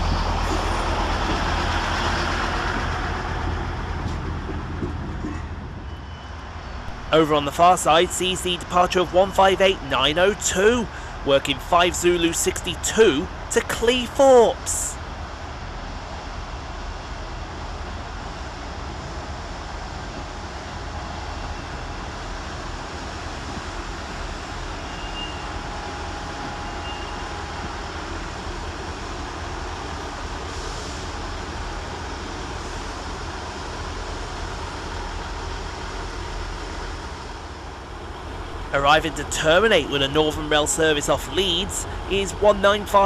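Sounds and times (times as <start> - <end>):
diesel train engines rumbling: 0.0 - 43.0.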